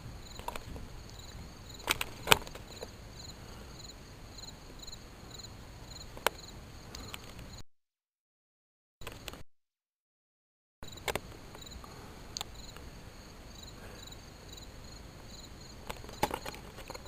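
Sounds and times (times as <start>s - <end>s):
insects chirping: 0.0s - 7.6s, 10.8s - 17.0s.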